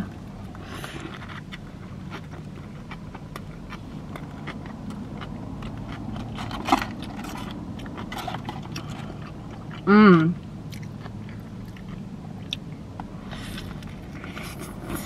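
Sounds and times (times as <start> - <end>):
biting and chewing burger: 0.0 - 9.9, 10.5 - 15.0
low steady hum: 0.0 - 15.0.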